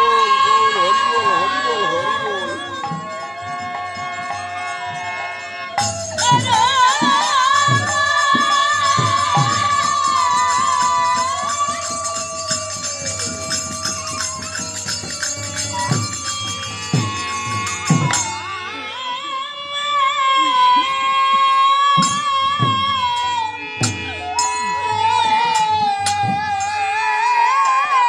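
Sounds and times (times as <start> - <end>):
harmonium tones: 0.0 - 10.4, 13.9 - 26.3
hand cymbals ringing: 0.0 - 18.8, 22.0 - 28.0
drum strokes: 0.2 - 18.8, 22.0 - 27.0.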